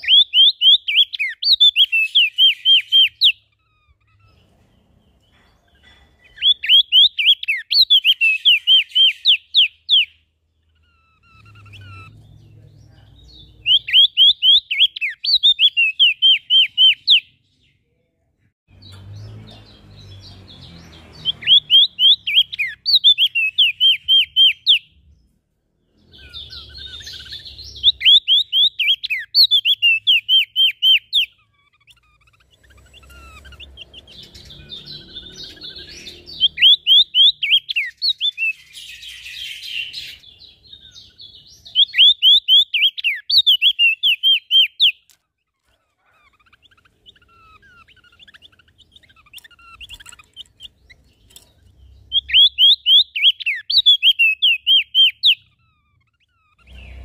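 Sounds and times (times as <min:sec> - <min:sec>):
songbird whistling: 0:00.0 - 0:04.5, 0:06.2 - 0:12.2, 0:13.6 - 0:17.4, 0:21.1 - 0:25.0, 0:26.0 - 0:45.1, 0:46.3 - 0:57.0.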